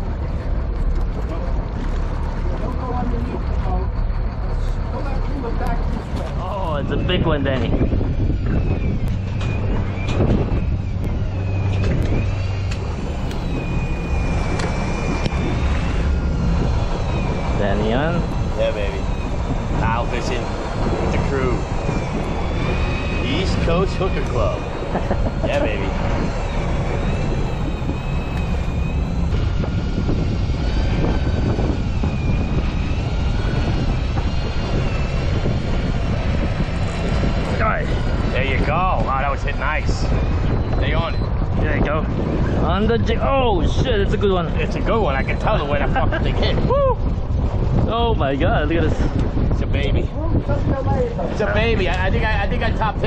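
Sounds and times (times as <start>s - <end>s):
boat engine droning: 0.0s - 53.0s
high wavering whine: 0.0s - 53.0s.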